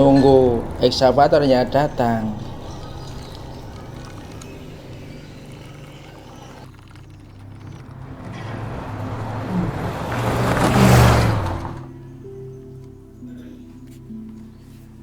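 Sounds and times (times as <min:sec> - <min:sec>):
vehicle motor whirring: 0:00.0 - 0:13.0.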